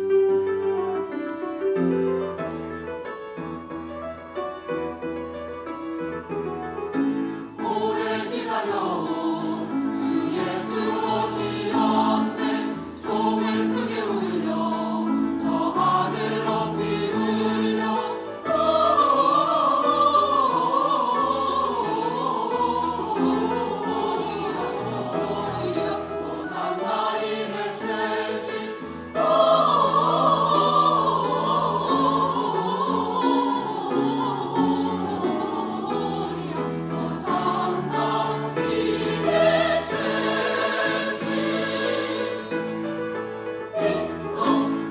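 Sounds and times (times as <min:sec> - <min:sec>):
piano accompaniment: 0:00.0 - 0:44.9
choir singing: 0:07.4 - 0:44.9.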